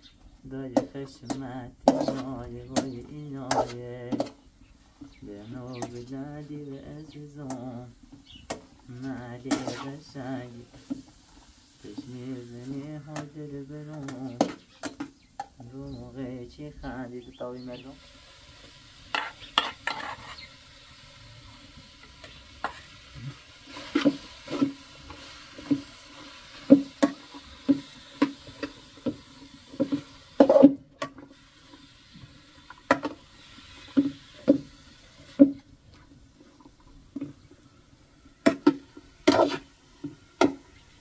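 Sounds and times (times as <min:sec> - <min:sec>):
vegetables sizzling: 0:00.0 - 0:41.0
ladle scraping and knocking wok: 0:00.7 - 0:15.6, 0:18.0 - 0:41.0.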